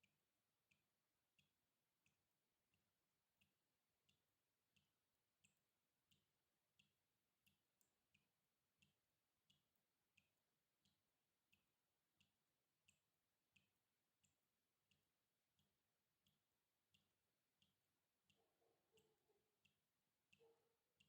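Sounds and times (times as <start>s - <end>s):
faint water drops dripping: 0.0s - 21.0s.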